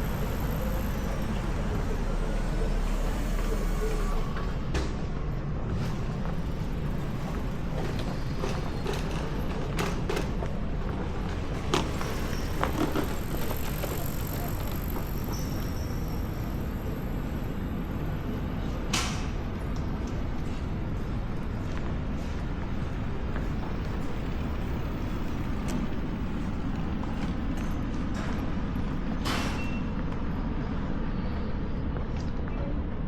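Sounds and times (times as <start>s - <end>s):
low street rumble: 0.0s - 33.0s.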